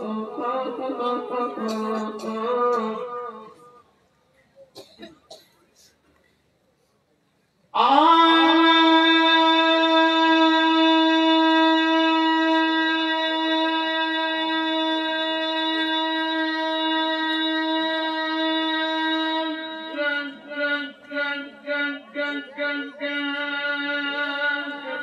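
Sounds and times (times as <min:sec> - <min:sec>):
person reciting in long sung note: 0:00.0 - 0:03.8, 0:07.7 - 0:25.0.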